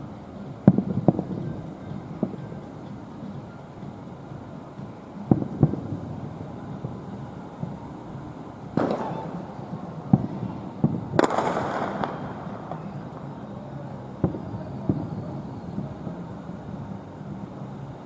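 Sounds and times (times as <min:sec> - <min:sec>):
fireworks bursting: 0:00.0 - 0:18.0
fireworks crackling: 0:00.0 - 0:18.0.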